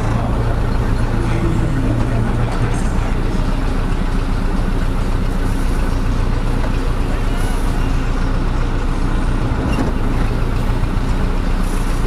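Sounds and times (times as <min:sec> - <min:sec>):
tractor diesel engine droning: 0:00.0 - 0:12.0.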